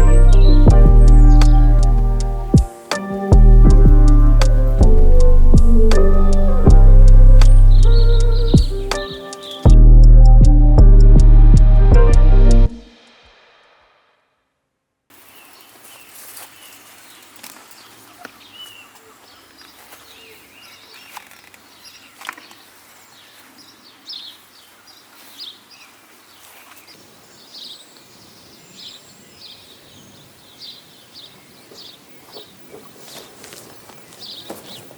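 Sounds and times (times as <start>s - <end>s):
small birds chirping: 0.0s - 9.7s, 15.1s - 34.9s.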